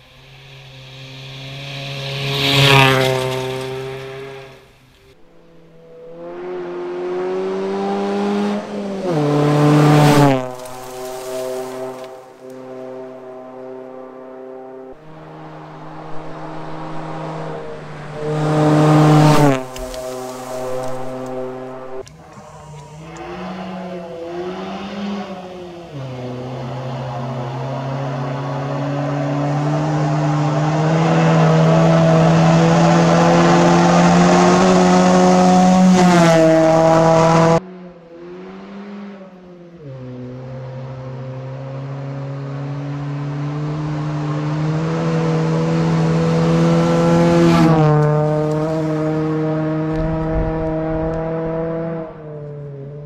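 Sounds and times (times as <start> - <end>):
rally car engine passing at speed: 0.0 - 53.0.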